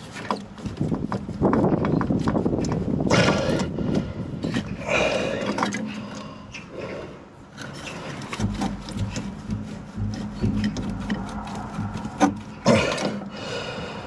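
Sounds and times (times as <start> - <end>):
pipe grips scraping and clicking: 0.0 - 6.7, 7.5 - 13.7
steady low hum: 2.3 - 14.0.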